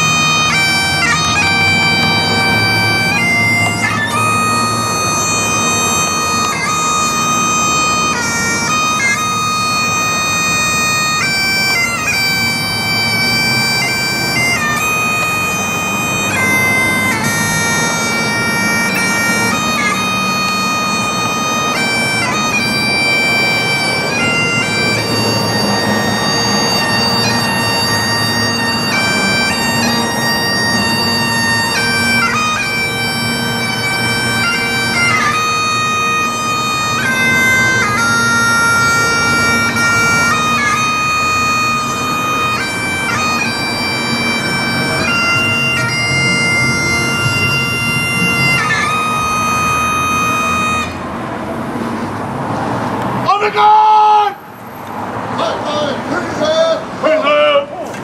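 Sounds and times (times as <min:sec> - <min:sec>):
bagpipes playing slow tune: 0:00.0 - 0:57.0.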